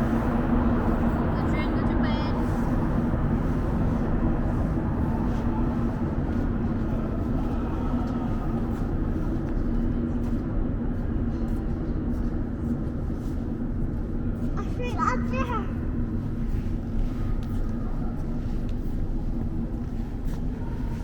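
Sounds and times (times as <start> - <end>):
constant low hum: 0.0 - 21.0
metro train rumbling: 0.0 - 21.0.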